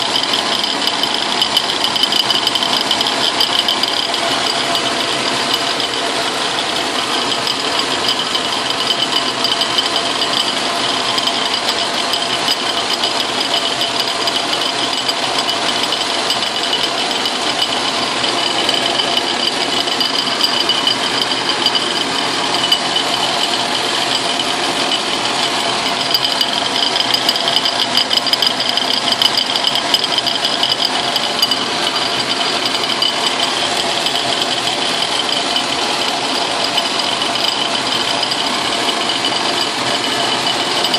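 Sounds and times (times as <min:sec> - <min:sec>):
lathe milling metal: 0:00.0 - 0:40.9.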